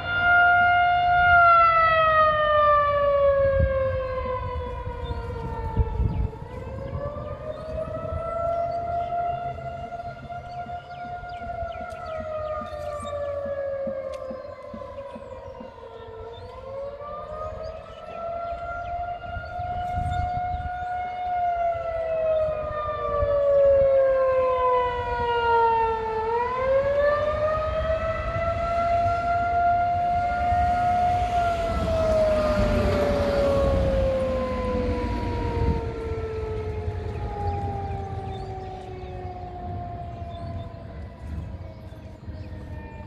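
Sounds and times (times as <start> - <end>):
warning siren wailing: 0.0 - 43.0.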